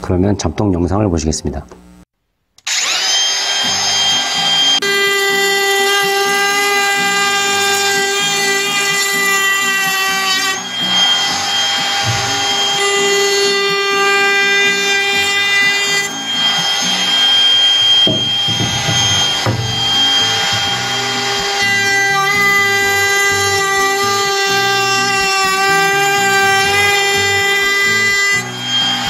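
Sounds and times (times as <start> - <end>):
router cutting wood: 2.6 - 29.0
router whining: 2.6 - 29.0
background music: 4.8 - 29.0.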